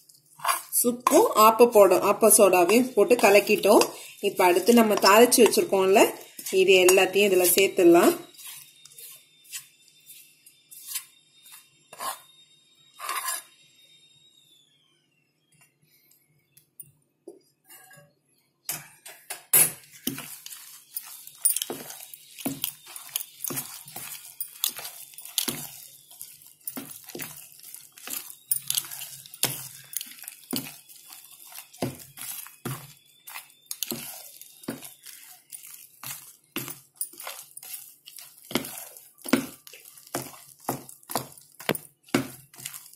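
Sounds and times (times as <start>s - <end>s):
hand mixing thick batter: 0.0s - 11.6s, 19.8s - 42.9s.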